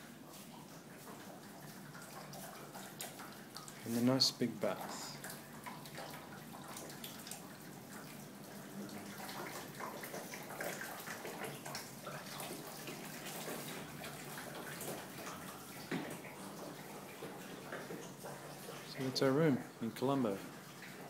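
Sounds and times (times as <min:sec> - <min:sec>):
faint drip-like ticks: 0:00.1 - 0:21.0.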